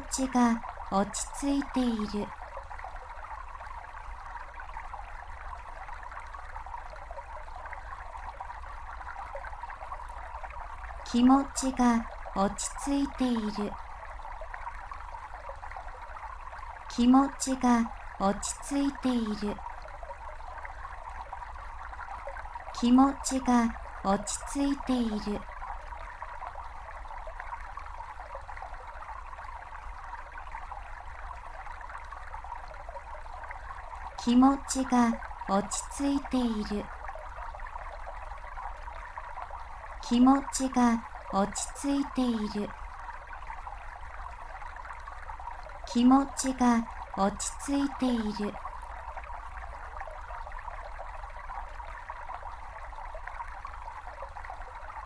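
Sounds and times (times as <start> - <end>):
brook babbling over stones: 0.0 - 55.0
faint low hum: 0.0 - 55.0.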